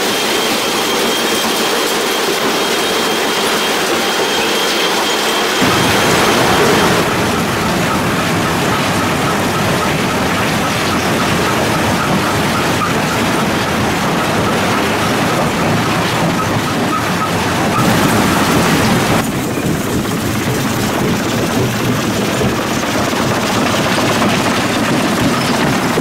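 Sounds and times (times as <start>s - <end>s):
machine drone: 0.0s - 26.0s.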